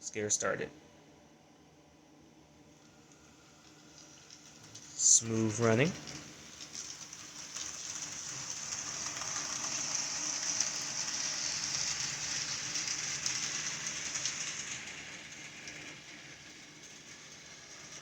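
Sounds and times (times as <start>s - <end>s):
model train running on track: 3.0s - 18.0s.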